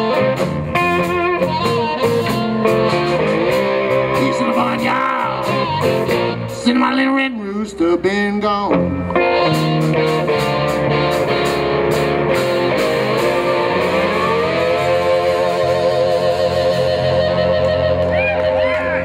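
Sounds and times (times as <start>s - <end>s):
electric blues band playing: 0.0s - 19.0s
electric guitar: 0.0s - 19.0s.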